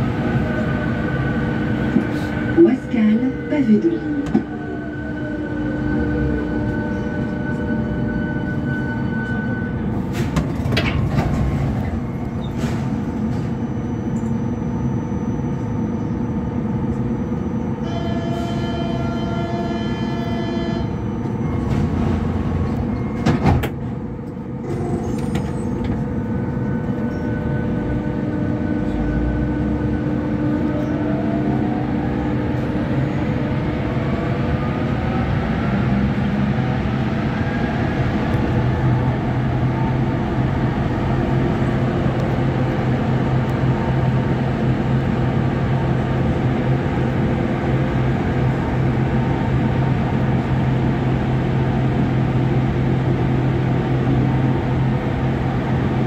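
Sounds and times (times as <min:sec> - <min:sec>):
metro train rumbling in tunnel: 0:00.0 - 0:56.0.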